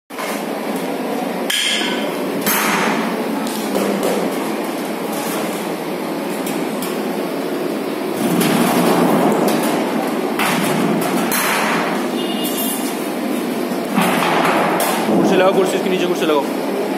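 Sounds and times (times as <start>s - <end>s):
steady noisy din: 0.1s - 16.9s.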